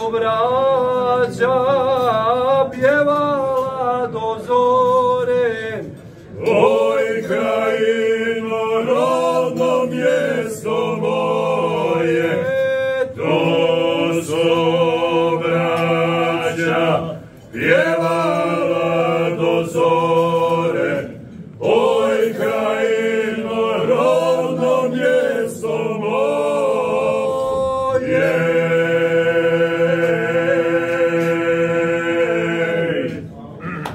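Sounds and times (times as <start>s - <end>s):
men singing a cappella: 0.0s - 33.9s.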